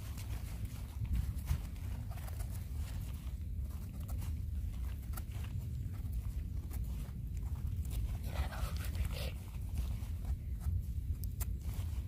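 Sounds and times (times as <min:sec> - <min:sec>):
footsteps in forest litter: 0:00.0 - 0:12.0
wind buffeting microphone: 0:00.0 - 0:12.0.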